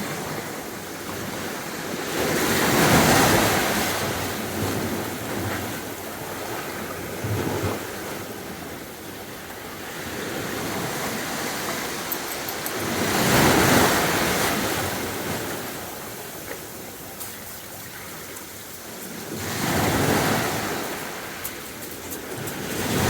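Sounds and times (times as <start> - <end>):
sea waves breaking on beach: 0.0 - 23.0.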